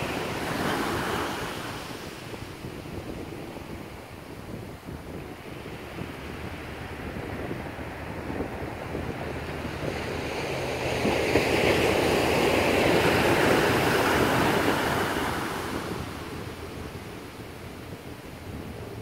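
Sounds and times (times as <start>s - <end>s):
small waves breaking on sand: 0.0s - 19.0s.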